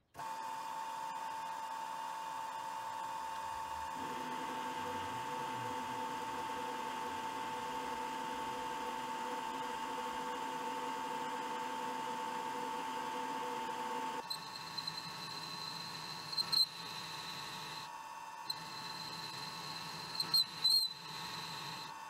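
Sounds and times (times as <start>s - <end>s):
metal lathe whining hum: 1.1s - 22.0s.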